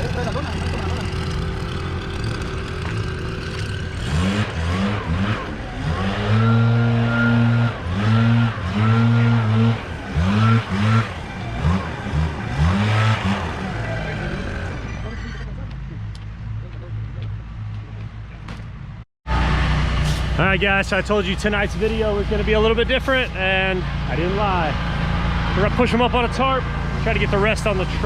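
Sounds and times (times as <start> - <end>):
engine revving: 0.0 - 15.9, 19.3 - 28.0.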